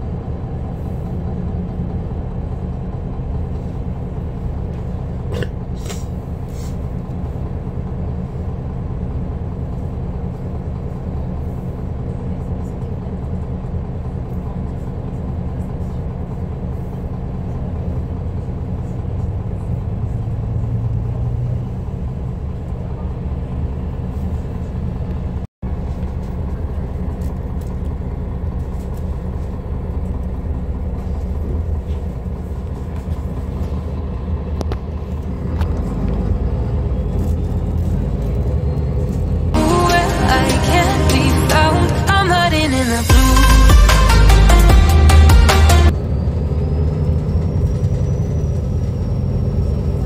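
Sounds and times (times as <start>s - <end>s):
bus diesel engine rumbling: 0.0s - 50.0s.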